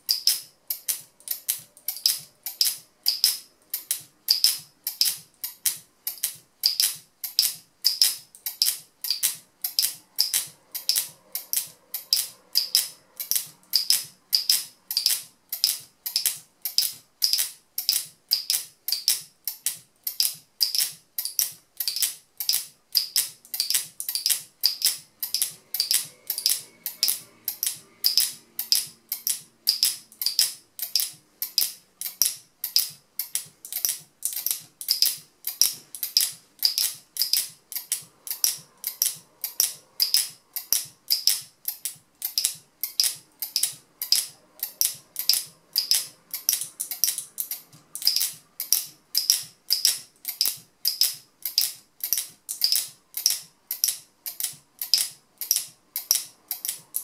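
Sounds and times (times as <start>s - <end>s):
locking mechanism clicking: 0.0s - 57.0s.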